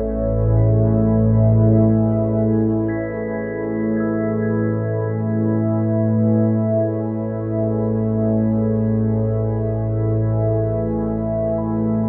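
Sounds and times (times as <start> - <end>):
ambient music with held chords: 0.0 - 12.0.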